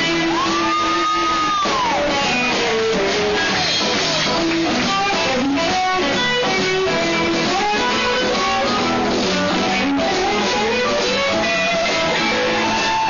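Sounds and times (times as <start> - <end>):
blues band shuffle: 0.0 - 13.0
lead guitar bending notes: 0.0 - 13.0.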